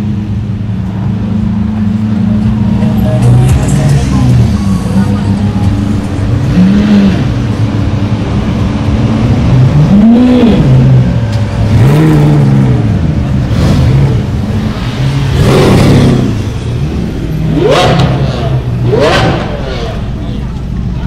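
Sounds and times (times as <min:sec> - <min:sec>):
car engine idling and revving: 0:00.0 - 0:21.0
exhaust rush: 0:00.0 - 0:21.0.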